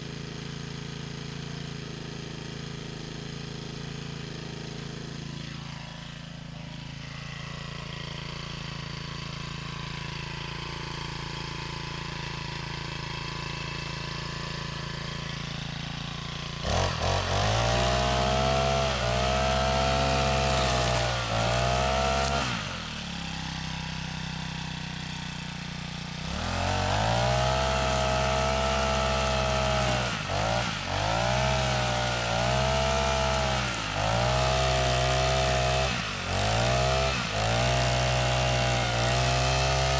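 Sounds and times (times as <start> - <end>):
small petrol engine revving: 0.0 - 39.9.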